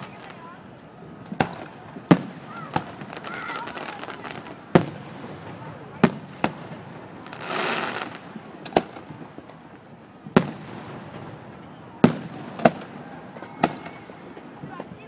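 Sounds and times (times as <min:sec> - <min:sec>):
firework rushing hiss: 0:00.0 - 0:15.0
firework shells booming: 0:01.2 - 0:14.9.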